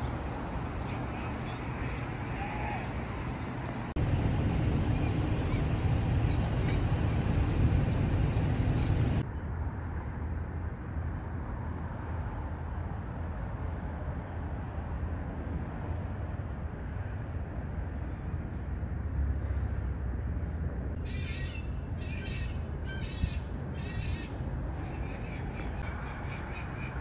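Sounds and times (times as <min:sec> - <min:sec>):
vehicle running noise: 0:00.0 - 0:27.0.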